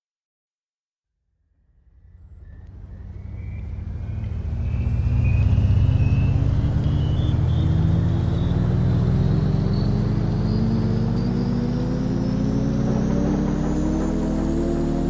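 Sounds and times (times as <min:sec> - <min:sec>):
high whine rising in pitch: 0:01.8 - 0:15.0.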